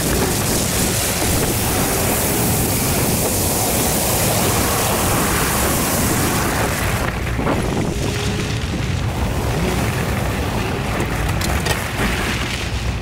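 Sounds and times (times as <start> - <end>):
tyres rolling on gravel: 0.0 - 13.0
wind on microphone: 0.0 - 13.0.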